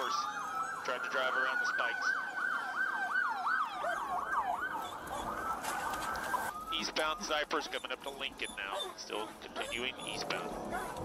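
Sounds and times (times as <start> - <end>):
police siren yelp: 0.0 - 11.0
siren steady held tone: 0.0 - 11.0.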